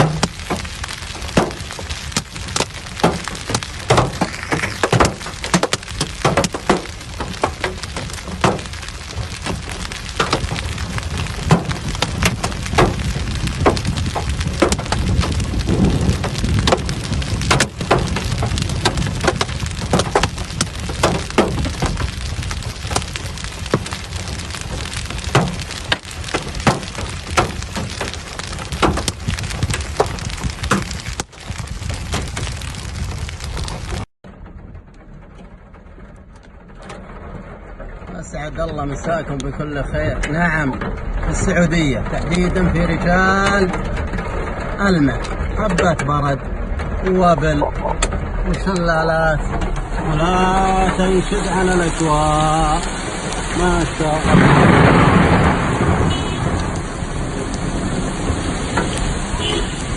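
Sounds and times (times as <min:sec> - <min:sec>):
hail clattering on hard surfaces: 0:00.0 - 0:59.9
heavy rain rushing: 0:00.0 - 0:59.9.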